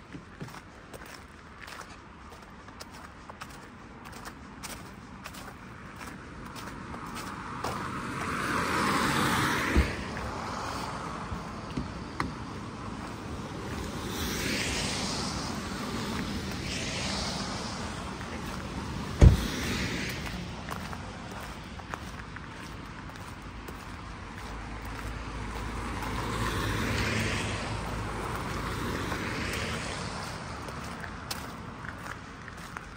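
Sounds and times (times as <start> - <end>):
cars passing: 0.0 - 32.9.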